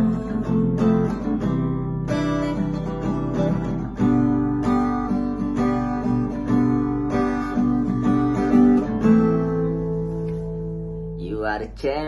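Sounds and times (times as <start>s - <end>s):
acoustic guitar strumming chords: 0.0s - 11.8s.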